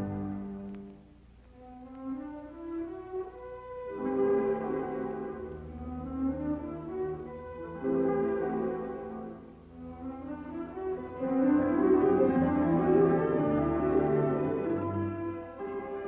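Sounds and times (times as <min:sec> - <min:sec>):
orchestral music horns and strings: 0:00.0 - 0:16.0.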